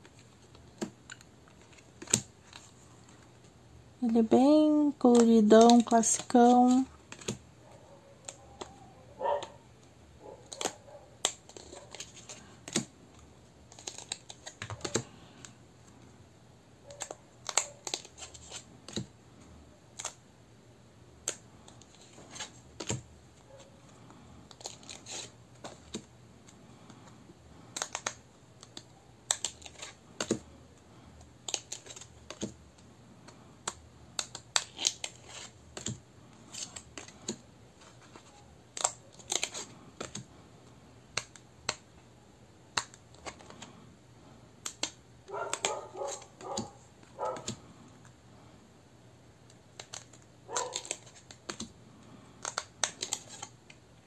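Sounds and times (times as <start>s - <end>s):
cards clicking and tapping: 0.0s - 3.4s, 4.2s - 7.5s, 8.2s - 8.8s, 10.4s - 15.6s, 16.9s - 19.2s, 19.9s - 20.2s, 21.2s - 30.5s, 31.2s - 40.3s, 41.0s - 42.0s, 42.7s - 43.8s, 44.6s - 48.2s, 49.4s - 53.8s.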